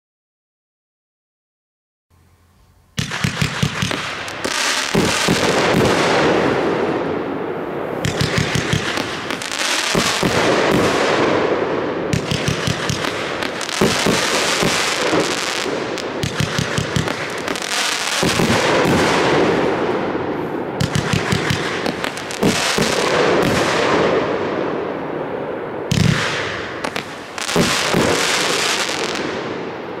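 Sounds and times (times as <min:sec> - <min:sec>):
fireworks popping and crackling: 0:03.0 - 0:25.1, 0:25.8 - 0:30.0.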